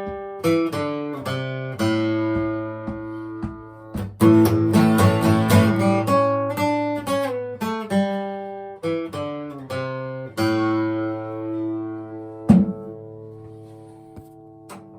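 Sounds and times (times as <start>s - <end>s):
acoustic guitar strumming and picking: 0.0s - 14.9s.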